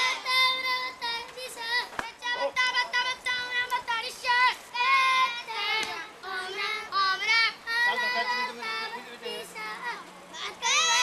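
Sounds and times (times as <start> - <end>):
children chanting and cheering: 0.0 - 11.0.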